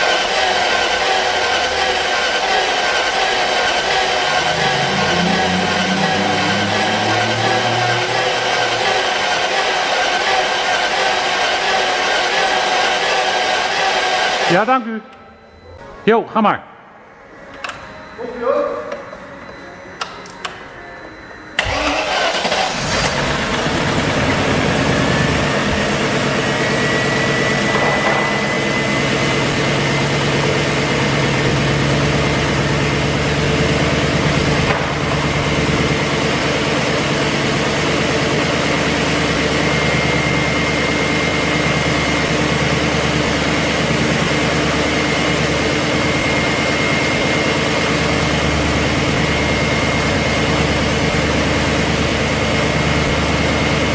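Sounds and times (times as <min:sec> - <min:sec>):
car engine starting and idling: 0:00.0 - 0:14.7, 0:21.6 - 0:53.9
thin high whine: 0:02.6 - 0:11.6, 0:14.4 - 0:53.9.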